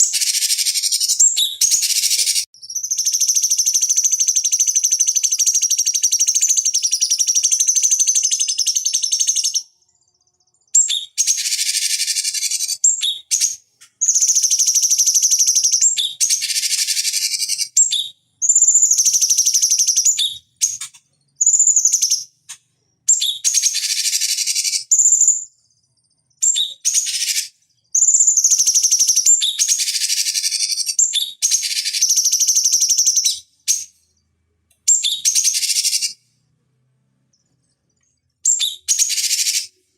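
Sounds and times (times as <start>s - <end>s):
bird singing chattering song: 0.0s - 36.3s, 37.2s - 39.9s.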